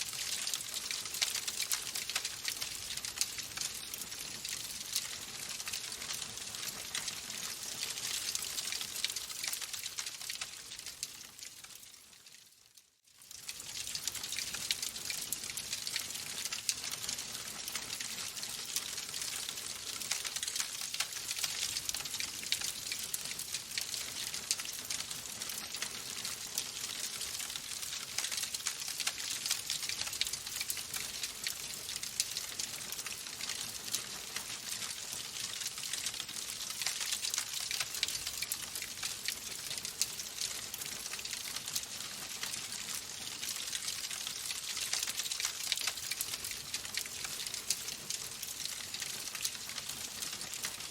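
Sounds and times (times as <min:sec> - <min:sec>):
fire crackling in a fireplace: 0:00.0 - 0:50.9.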